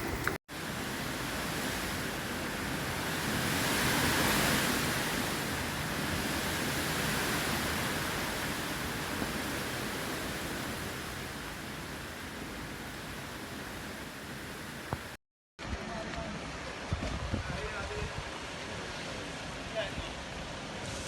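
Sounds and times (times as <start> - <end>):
hurricane wind rushing: 0.0 - 21.0.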